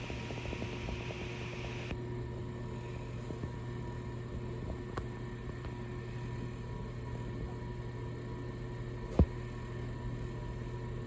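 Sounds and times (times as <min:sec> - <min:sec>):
electric fan heater humming: 0:00.0 - 0:11.0.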